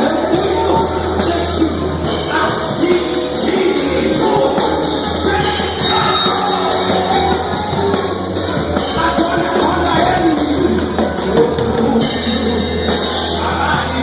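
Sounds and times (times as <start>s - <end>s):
drum and cymbal beat: 0.0s - 14.0s
live band music: 0.0s - 14.0s
sustained bass: 0.0s - 14.0s
voices singing: 0.0s - 14.0s.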